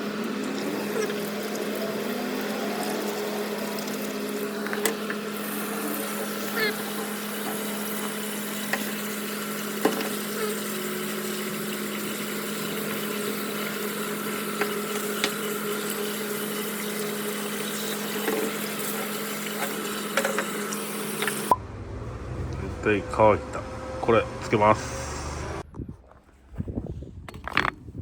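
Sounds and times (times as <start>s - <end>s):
electric air blower running: 0.0s - 25.6s.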